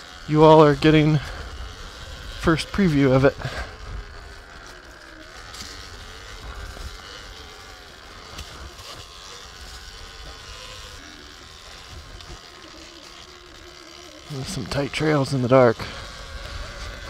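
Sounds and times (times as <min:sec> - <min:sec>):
electric motor whining: 0:00.0 - 0:17.0
tyre noise on dirt and leaves: 0:00.0 - 0:17.0.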